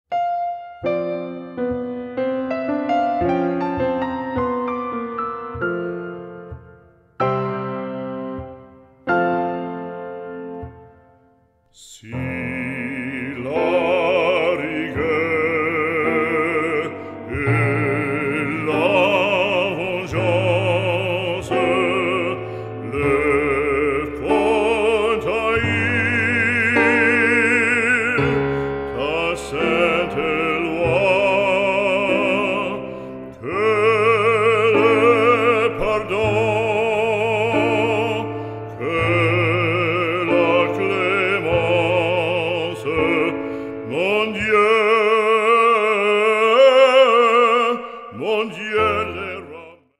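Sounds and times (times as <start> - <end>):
operatic classical music: 0.1 - 49.9.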